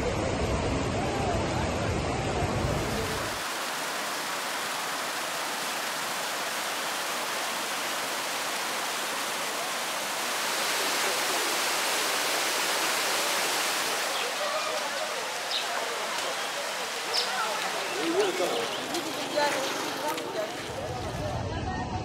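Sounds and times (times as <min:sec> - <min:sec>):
floodwater rushing: 0:00.0 - 0:21.4.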